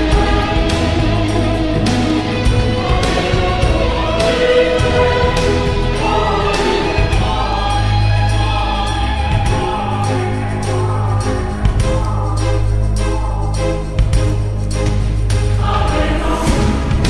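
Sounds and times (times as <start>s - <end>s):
choir singing over a beat: 0.0s - 17.0s.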